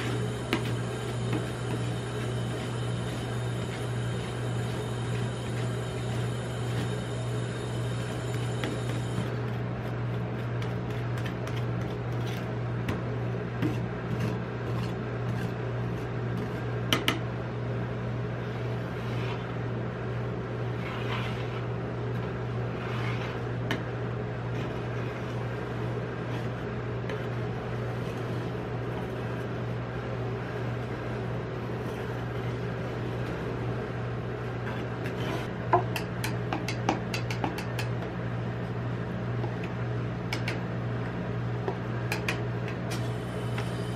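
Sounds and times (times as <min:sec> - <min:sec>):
refrigeration unit hum: 0:00.0 - 0:43.9.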